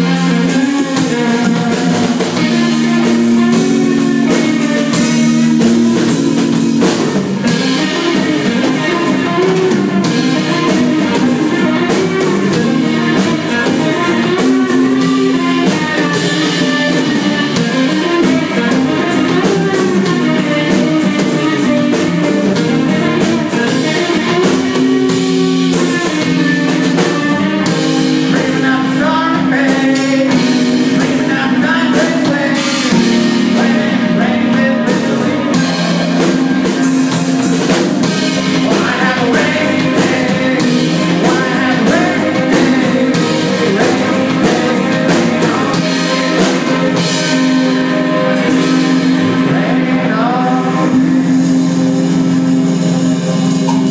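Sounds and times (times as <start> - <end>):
electric guitar line: 0.0 - 53.9
rock band playing: 0.0 - 53.9.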